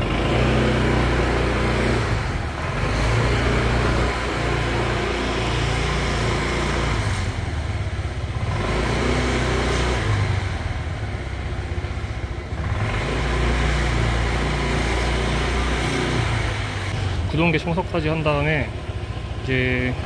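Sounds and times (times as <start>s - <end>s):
scooter engine running: 0.0s - 17.3s.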